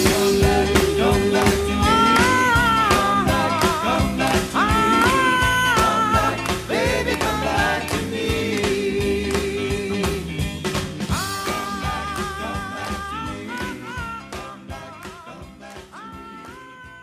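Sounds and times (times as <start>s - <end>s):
doo-wop vocal group song: 0.0s - 17.0s.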